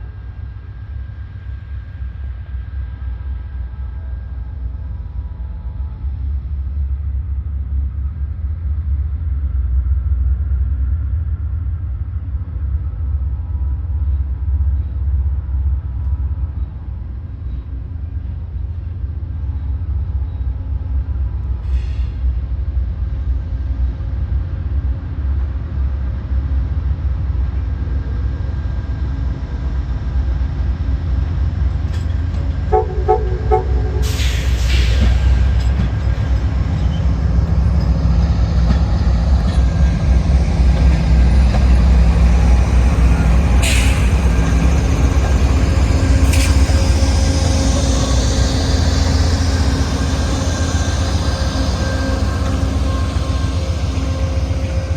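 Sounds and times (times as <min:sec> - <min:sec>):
passenger train rumbling: 0:00.0 - 0:54.9.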